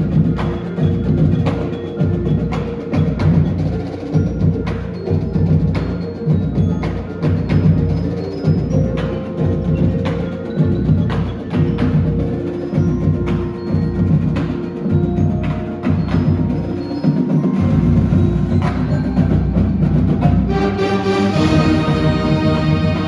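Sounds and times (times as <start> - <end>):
chimes: 0.0 - 23.0
marching percussion with mallets: 0.0 - 23.0.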